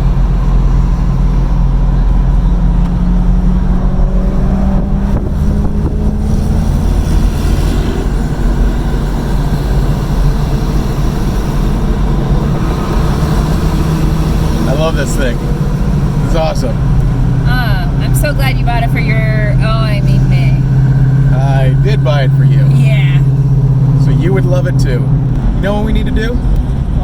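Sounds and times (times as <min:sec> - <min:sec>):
car engine: 0:00.0 - 0:27.0
road noise: 0:00.0 - 0:27.0.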